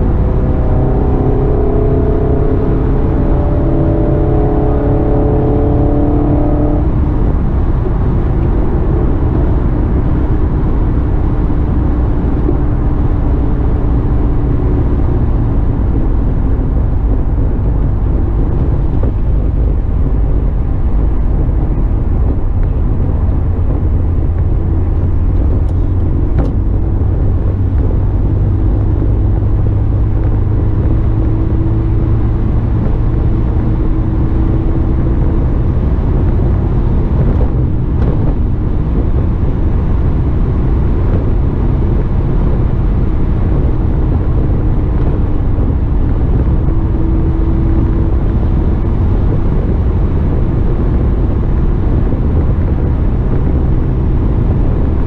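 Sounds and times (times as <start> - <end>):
car engine running: 0.0 - 55.0
wind noise: 0.0 - 55.0.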